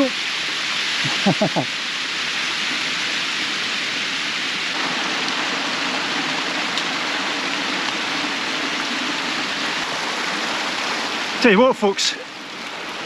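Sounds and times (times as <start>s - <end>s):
water rushing down concrete dam: 0.0s - 13.0s.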